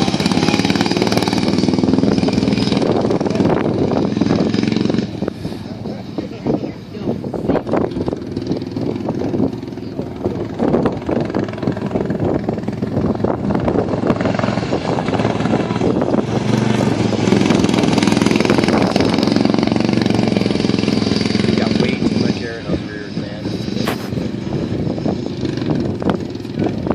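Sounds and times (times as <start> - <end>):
lawn mower engines racing: 0.0 - 26.9.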